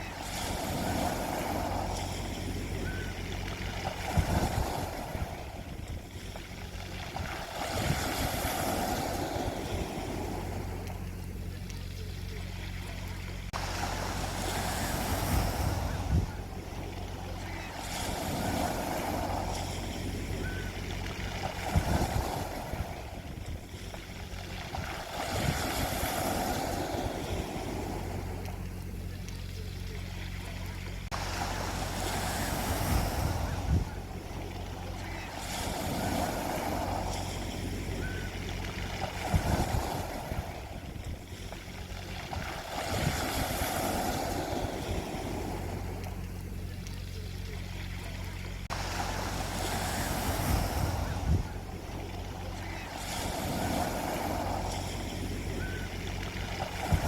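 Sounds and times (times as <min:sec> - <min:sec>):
low rumble of surf: 0:00.0 - 0:57.0
waves breaking on a beach: 0:00.0 - 0:57.0
wind: 0:00.0 - 0:57.0.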